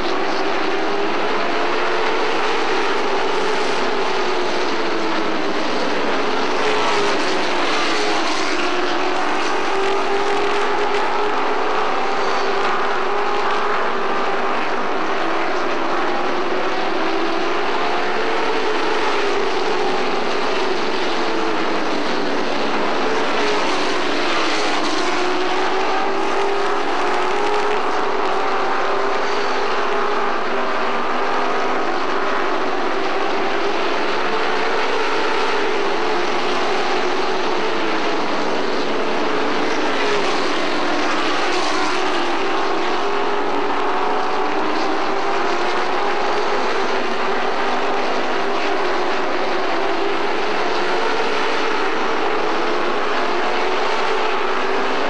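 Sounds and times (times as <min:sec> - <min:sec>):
racing truck engines: 0:00.0 - 0:55.0.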